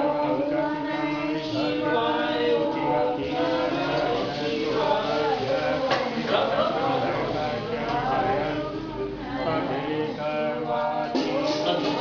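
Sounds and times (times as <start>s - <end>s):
group chanting in unison: 0.0s - 12.0s.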